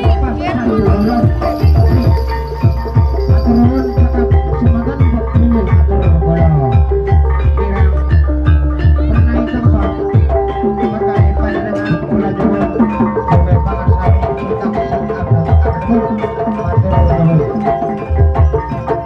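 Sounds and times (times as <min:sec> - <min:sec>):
ringing metallophone notes: 0:00.0 - 0:19.0.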